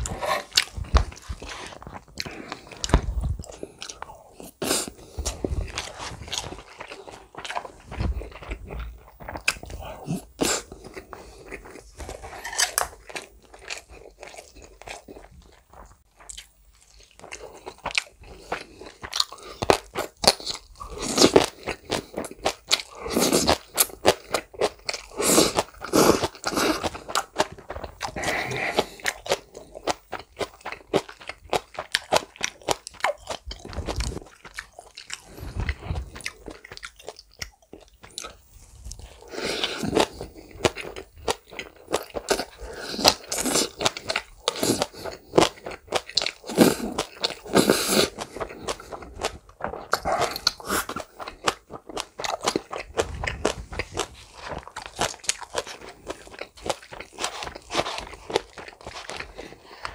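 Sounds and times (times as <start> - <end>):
wet crunchy chewing: 0.0 - 59.9.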